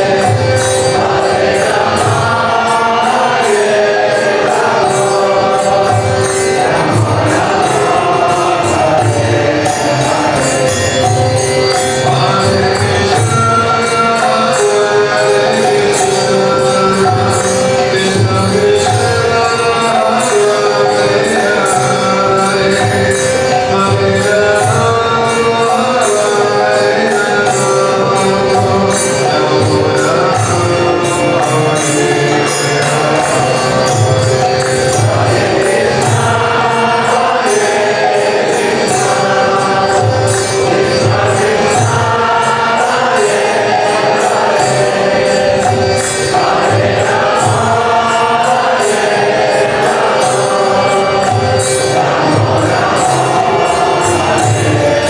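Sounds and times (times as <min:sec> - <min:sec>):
harmonium chords: 0:00.0 - 0:55.0
jingling hand cymbals: 0:00.0 - 0:55.0.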